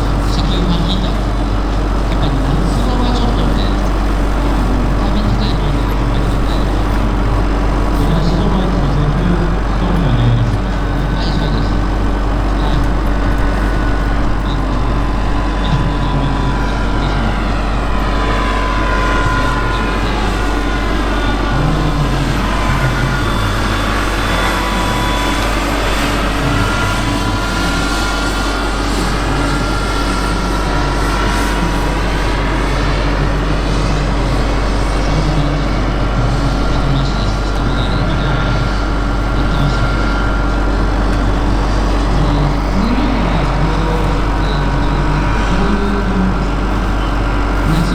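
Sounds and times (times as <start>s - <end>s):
model helicopter flying: 0.0s - 47.9s.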